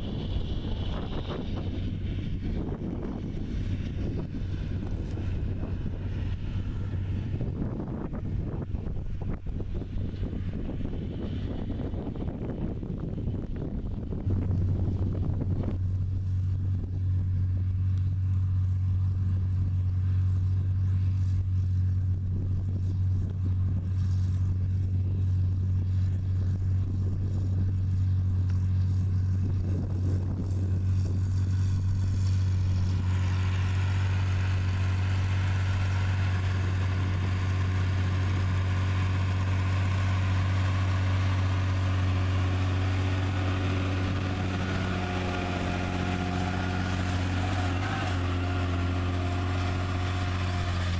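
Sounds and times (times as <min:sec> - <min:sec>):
tractor diesel engine drone: 0:00.0 - 0:50.9.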